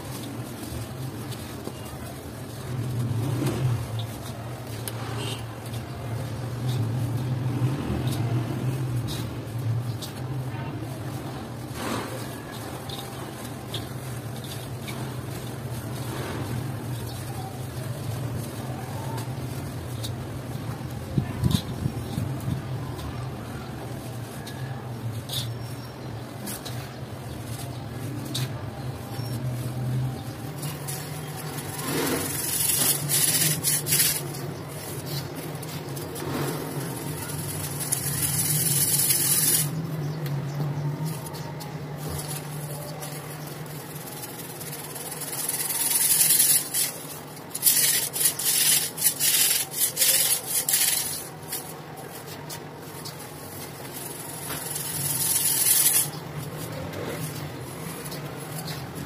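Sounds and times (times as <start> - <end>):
cement pieces rubbing and crumbling: 0.0 - 59.0.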